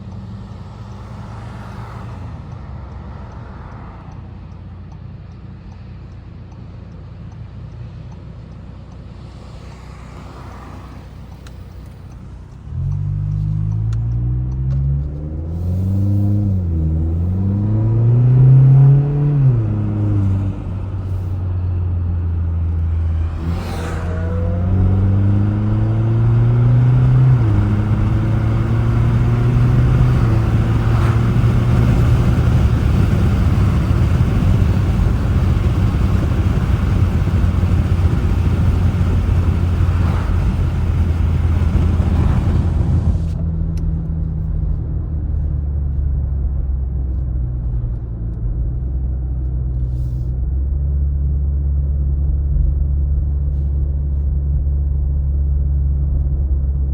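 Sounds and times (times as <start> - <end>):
road noise: 0.0 - 56.9
car engine accelerating: 8.7 - 56.8.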